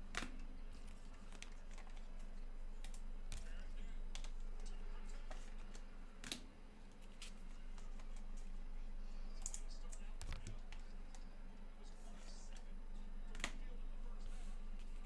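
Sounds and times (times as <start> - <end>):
low electrical hum: 0.0 - 15.0
light clicks and taps: 0.1 - 8.6, 9.4 - 11.3, 12.0 - 15.0.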